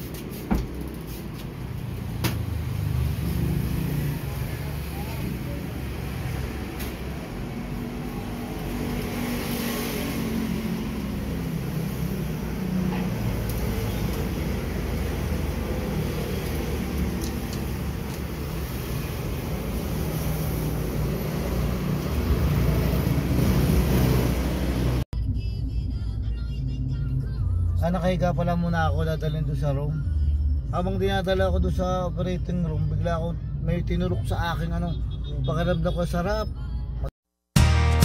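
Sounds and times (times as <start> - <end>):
road and traffic rumble: 0.0 - 37.2.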